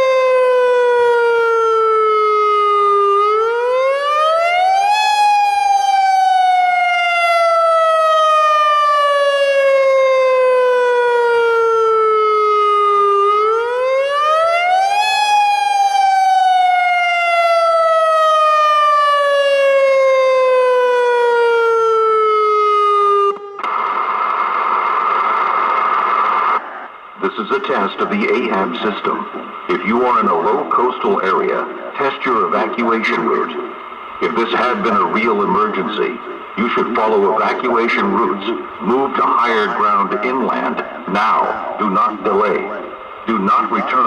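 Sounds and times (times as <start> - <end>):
siren wailing: 0.0 - 26.6, 27.2 - 44.0.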